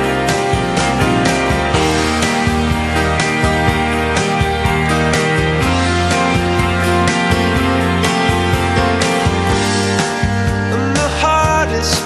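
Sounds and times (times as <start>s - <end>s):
guitar-led song with steady beat: 0.0s - 12.0s.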